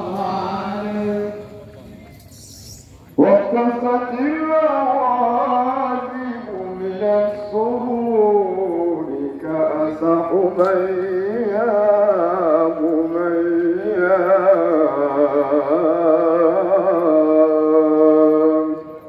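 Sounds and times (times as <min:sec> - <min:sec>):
man chanting through microphone: 0:00.0 - 0:02.1, 0:03.1 - 0:19.0.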